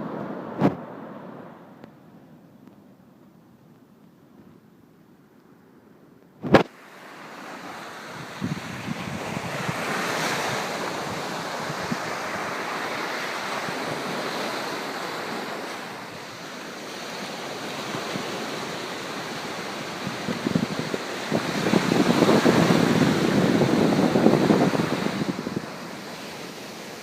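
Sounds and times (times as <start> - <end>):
waves breaking on sandy beach: 0.0 - 1.8, 6.4 - 27.0.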